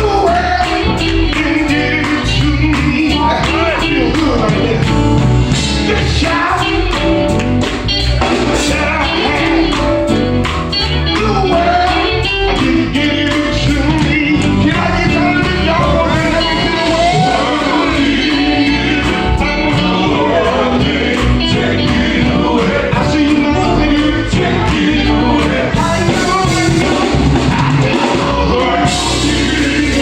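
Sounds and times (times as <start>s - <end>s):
band playing: 0.0s - 30.0s
voices singing gospel: 0.0s - 30.0s.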